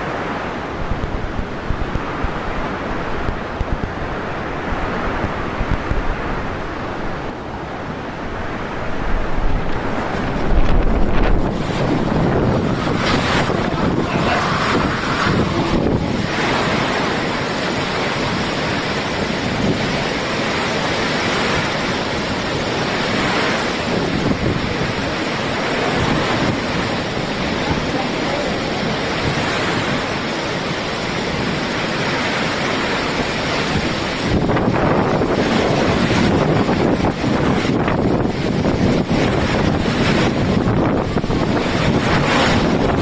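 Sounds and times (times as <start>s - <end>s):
surging water: 0.0s - 43.0s
wind buffeting microphone: 0.0s - 43.0s
wind rushing: 0.0s - 43.0s.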